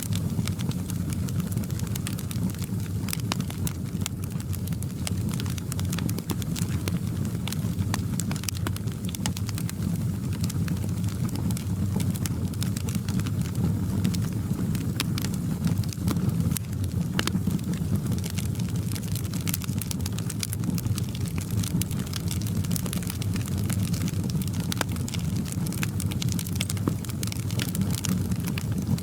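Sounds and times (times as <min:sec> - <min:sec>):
low roar of flames: 0:00.0 - 0:29.0
wood fire crackling: 0:00.0 - 0:29.0.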